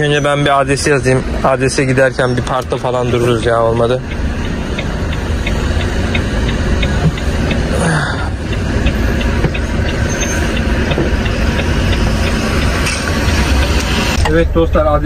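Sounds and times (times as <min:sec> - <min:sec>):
truck engine and road rumble: 0:00.0 - 0:15.0
turn signal ticking: 0:00.0 - 0:15.0.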